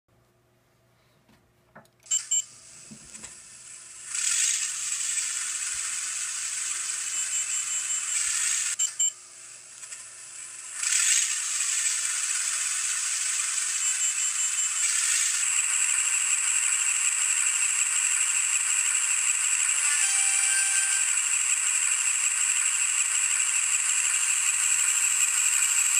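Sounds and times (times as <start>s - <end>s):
model locomotive diesel engine sound: 2.4s - 8.8s, 9.4s - 25.9s.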